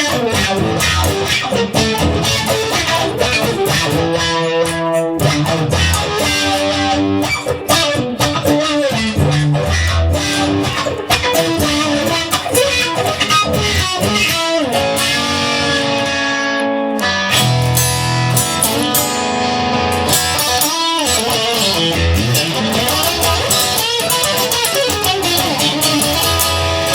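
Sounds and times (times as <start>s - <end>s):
electric guitar sliding melody: 0.0s - 26.9s
strummed guitar chords: 0.0s - 26.9s.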